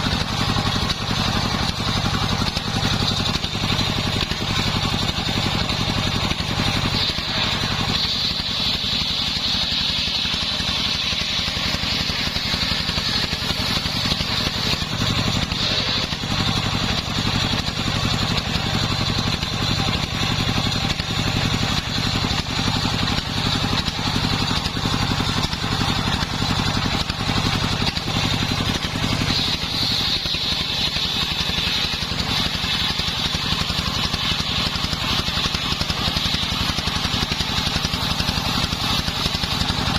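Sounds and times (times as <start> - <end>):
high saw blade whine: 0.0 - 39.9
pulsing engine drone: 0.0 - 39.9.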